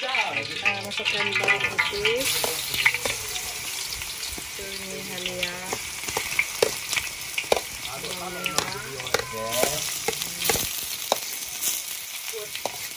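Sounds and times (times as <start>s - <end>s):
aromatics sizzling in hot oil: 0.0s - 12.9s.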